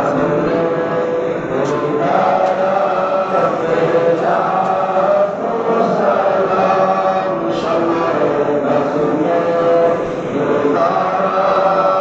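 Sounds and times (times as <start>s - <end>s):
voices chanting in unison: 0.0s - 12.0s.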